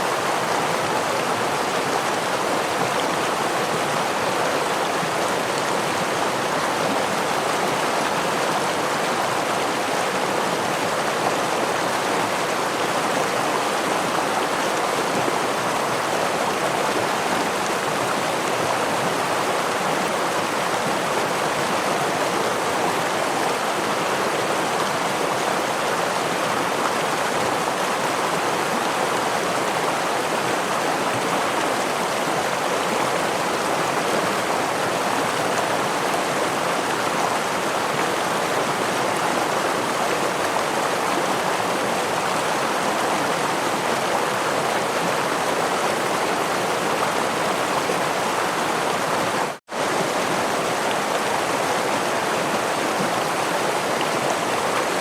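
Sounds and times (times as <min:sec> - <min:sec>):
stream of water flowing: 0:00.0 - 0:55.0.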